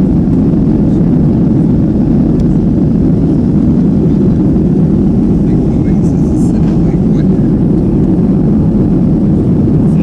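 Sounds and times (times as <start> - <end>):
airliner cabin engine noise: 0.0 - 10.0.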